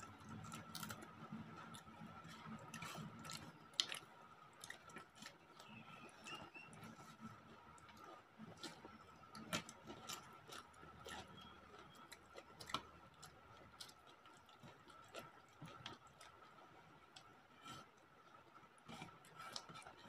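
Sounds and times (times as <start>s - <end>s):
mouths chewing: 0.0s - 20.0s.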